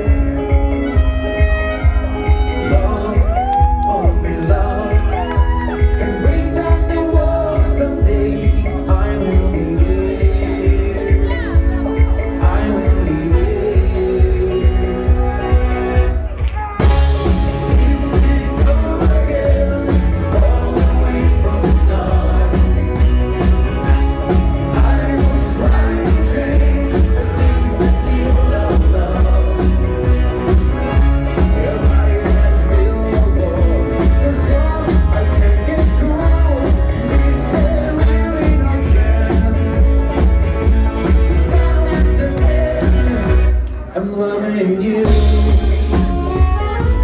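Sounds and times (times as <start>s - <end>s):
heavy bass: 0.0s - 44.0s, 45.0s - 47.0s
live band playing rock ballad: 0.0s - 47.0s.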